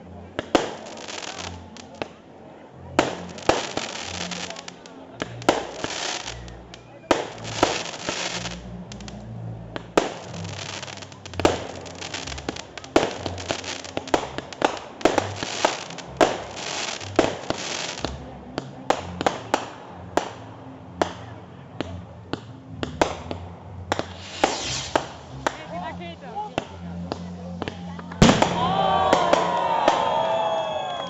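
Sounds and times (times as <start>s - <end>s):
firework crackling: 0.0s - 31.0s
firework bangs: 0.4s - 2.1s, 3.0s - 9.2s, 9.8s - 20.4s, 22.8s - 30.2s.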